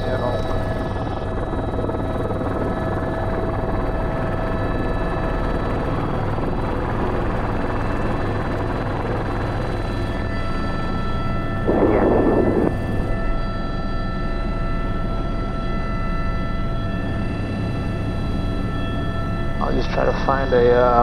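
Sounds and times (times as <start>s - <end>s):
helicopter rotor and turbine drone: 0.0s - 21.0s.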